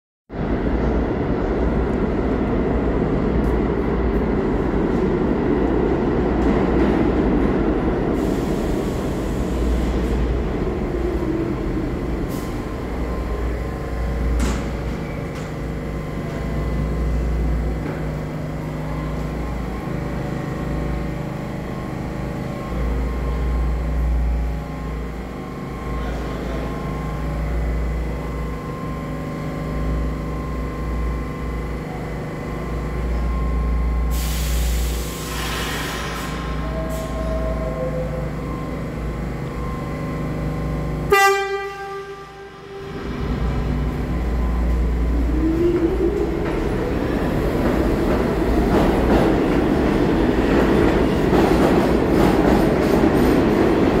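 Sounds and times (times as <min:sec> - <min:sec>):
standing train hum: 0:00.3 - 0:54.0
subway train rumbling to a stop: 0:00.3 - 0:54.0.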